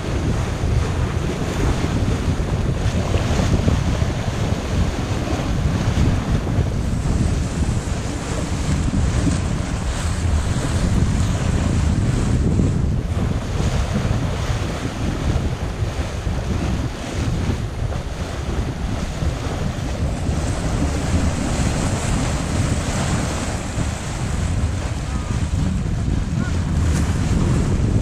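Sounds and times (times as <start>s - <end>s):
water rushing along hull: 0.0s - 28.0s
wind buffeting microphone: 0.0s - 28.0s.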